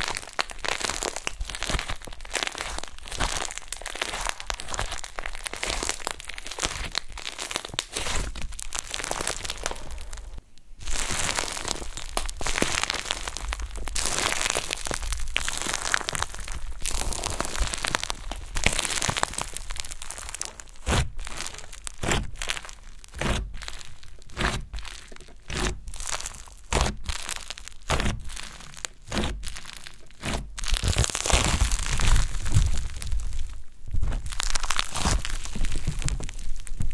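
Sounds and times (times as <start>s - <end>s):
slime crackling and crunching: 0.0s - 36.9s.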